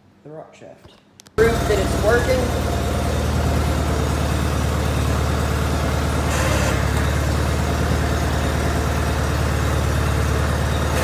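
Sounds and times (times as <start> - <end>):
tractor engine running: 1.4 - 11.0.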